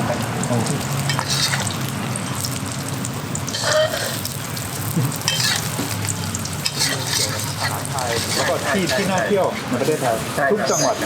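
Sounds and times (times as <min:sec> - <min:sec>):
egg sizzling in hot oil: 0:00.0 - 0:11.0.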